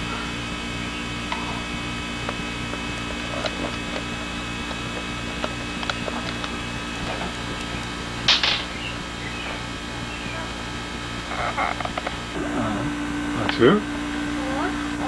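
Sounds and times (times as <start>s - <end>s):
pulsing low hum: 0.0s - 15.0s.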